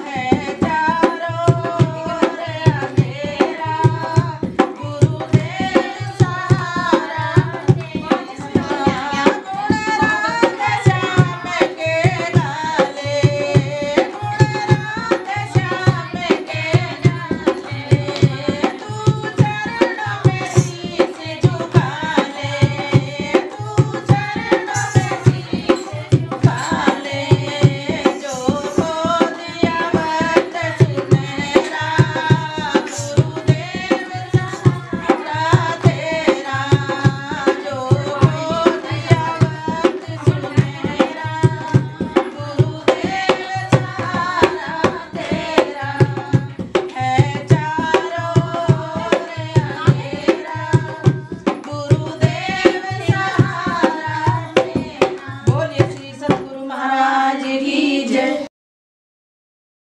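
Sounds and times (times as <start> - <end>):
hand drum beat: 0.0 - 56.6
women singing devotional song: 0.0 - 58.5.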